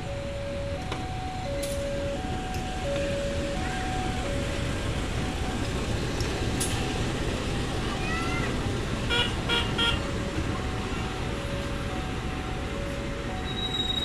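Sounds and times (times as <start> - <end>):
level crossing warning tones: 0.0 - 7.2, 9.8 - 14.0
diesel locomotive rumbling past: 0.0 - 14.0.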